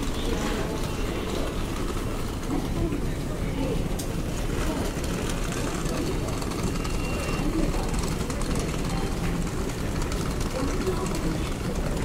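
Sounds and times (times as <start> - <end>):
faint voices: 0.0 - 12.0
wheeled suitcases rolling: 0.0 - 12.0.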